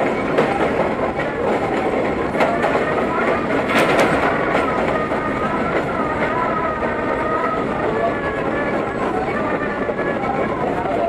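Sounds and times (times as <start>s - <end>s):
subway train running: 0.0s - 11.0s
wheels clicking over rail joints: 0.0s - 11.0s.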